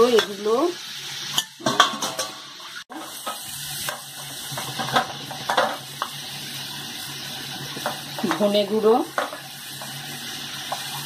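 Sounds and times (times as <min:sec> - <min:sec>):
paste sizzling in oil: 0:00.0 - 0:11.0.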